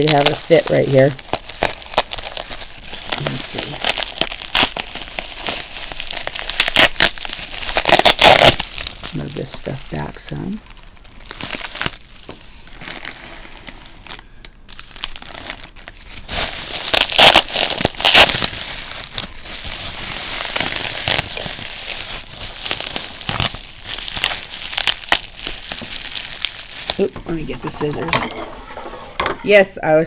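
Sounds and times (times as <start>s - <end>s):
bubble wrap crinkling: 0.0s - 28.0s.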